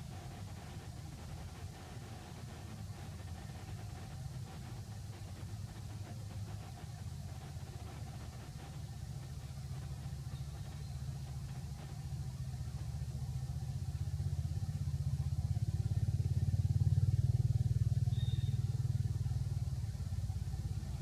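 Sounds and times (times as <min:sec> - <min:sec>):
engine running with fast pulse: 0:00.0 - 0:21.0.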